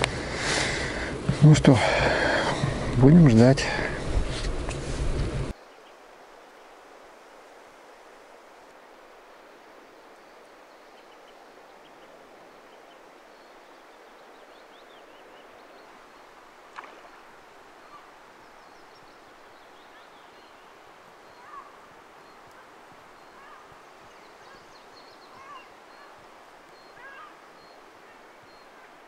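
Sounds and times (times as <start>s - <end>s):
distant birds chirping: 0.0s - 4.2s, 9.2s - 29.0s
faint outdoor hiss: 0.0s - 29.0s.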